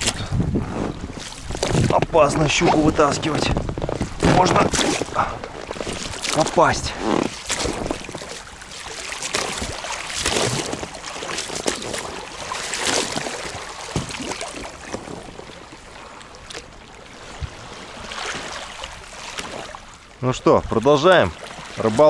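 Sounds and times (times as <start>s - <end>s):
water splashing and trickling: 0.0s - 22.0s.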